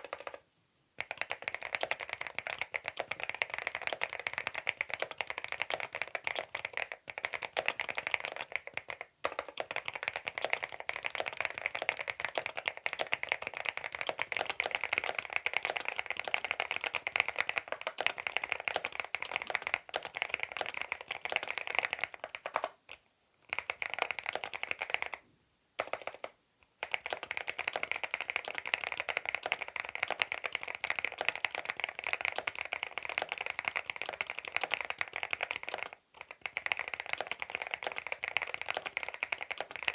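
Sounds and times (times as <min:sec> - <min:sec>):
fast typing on mechanical keyboard: 0:00.0 - 0:00.4, 0:01.0 - 0:22.8, 0:23.5 - 0:25.2, 0:25.8 - 0:39.9.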